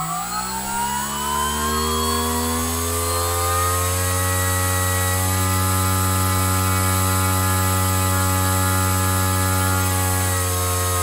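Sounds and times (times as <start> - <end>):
electric motor spinning propeller: 0.0 - 11.0.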